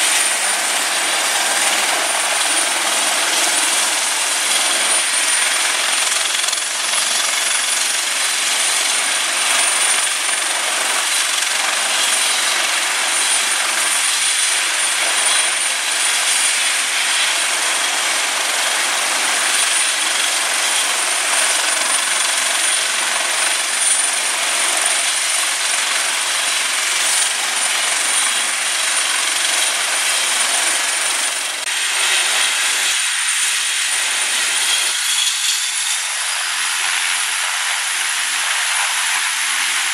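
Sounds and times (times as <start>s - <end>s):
high turbine whine: 0.0s - 25.7s, 27.0s - 39.9s
helicopter rotor and turbine noise: 0.0s - 39.9s.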